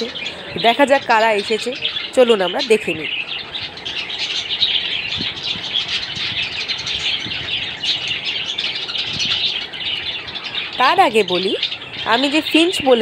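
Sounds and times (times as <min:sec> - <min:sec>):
birds chirping and chattering: 0:00.0 - 0:13.0.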